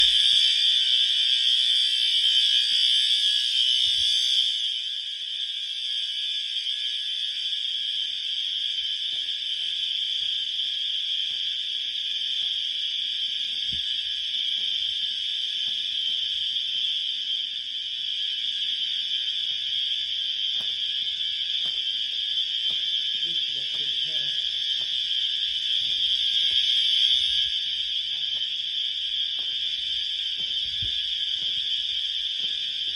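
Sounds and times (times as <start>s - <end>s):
fire alarm horns blaring: 0.0s - 32.9s.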